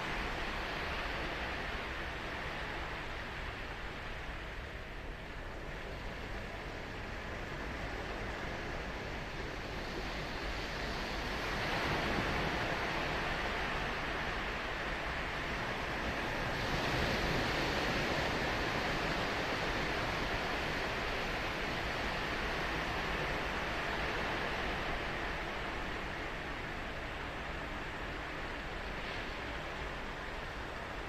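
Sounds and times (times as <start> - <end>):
ocean surf breaking on beach: 0.0 - 31.0.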